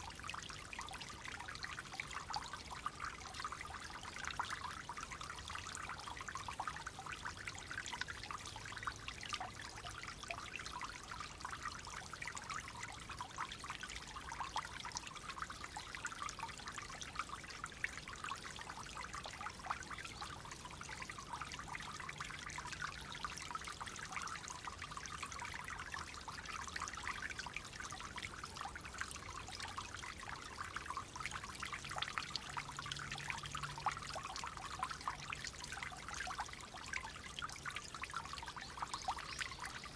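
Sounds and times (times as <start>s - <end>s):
water babbling over stones: 0.0s - 39.9s.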